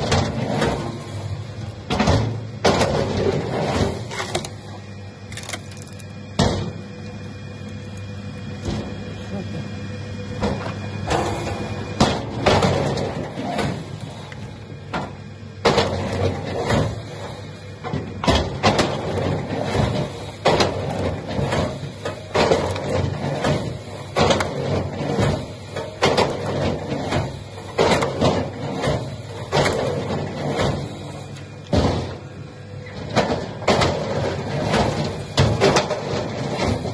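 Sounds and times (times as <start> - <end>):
machine running steadily: 0.0 - 36.9.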